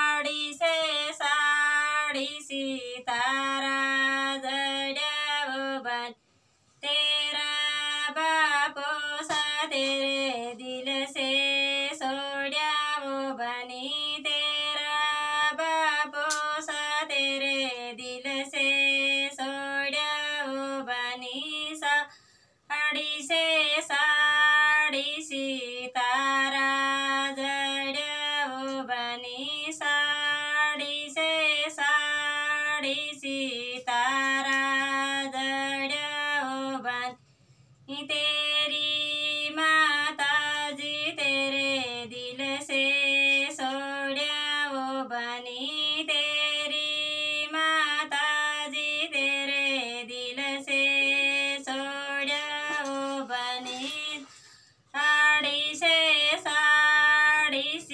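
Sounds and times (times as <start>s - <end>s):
woman singing: 0.0s - 6.2s, 6.8s - 37.2s, 37.8s - 57.9s.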